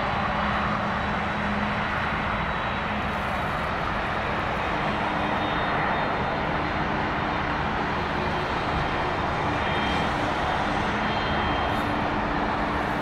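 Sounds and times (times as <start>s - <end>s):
high engine whine: 0.0s - 13.0s
jet engines roaring: 0.0s - 13.0s.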